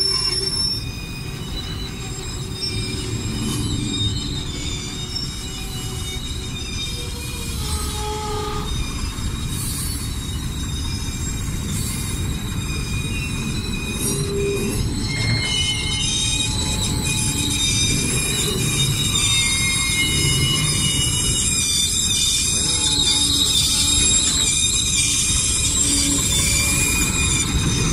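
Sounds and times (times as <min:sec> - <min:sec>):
steel wheels squealing: 0:00.0 - 0:27.9
train wheels rumbling on rail: 0:00.0 - 0:27.9.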